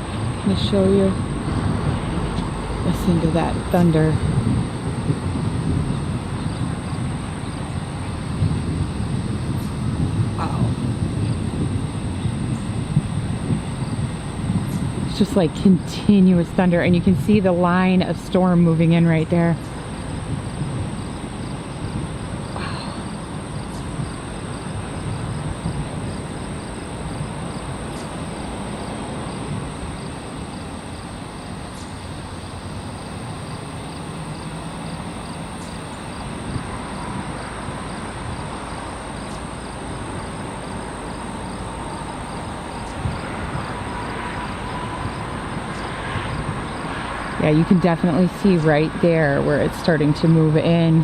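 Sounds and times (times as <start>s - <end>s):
distant thunder rumbling: 0.0s - 51.0s
steady outdoor hiss: 0.0s - 51.0s.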